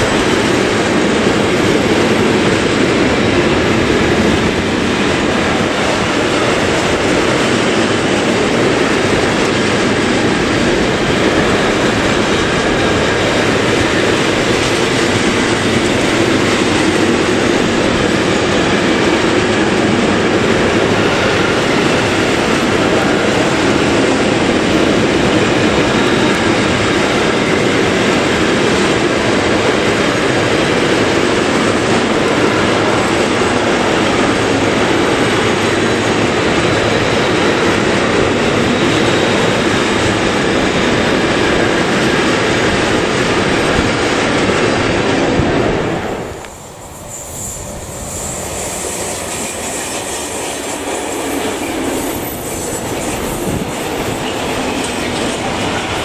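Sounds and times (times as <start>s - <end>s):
distant freight train passing: 0.0s - 56.0s
freight train passing: 0.0s - 56.0s.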